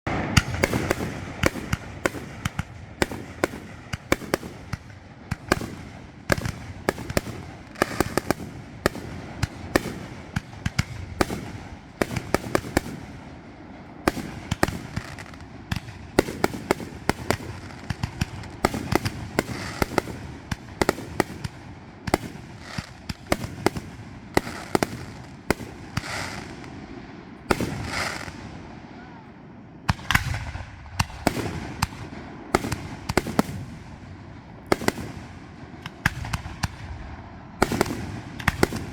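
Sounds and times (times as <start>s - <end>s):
fireworks banging: 0.1s - 28.8s, 29.8s - 38.9s.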